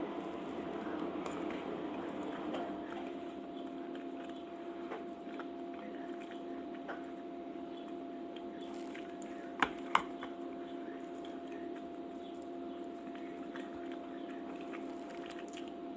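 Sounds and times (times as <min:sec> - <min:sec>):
person chewing wet food: 0:00.0 - 0:15.8
steady background hum: 0:00.0 - 0:15.9.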